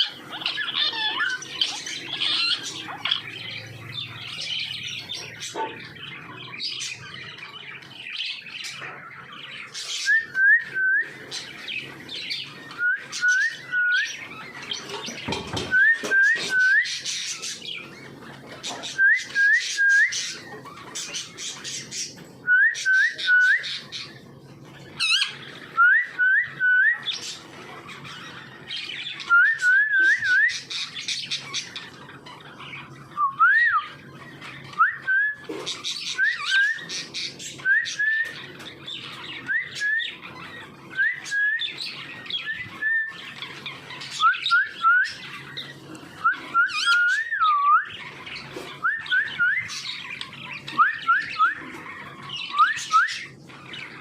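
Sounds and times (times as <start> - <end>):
parrot chirping and squawking: 0.0 - 10.3, 11.1 - 54.0.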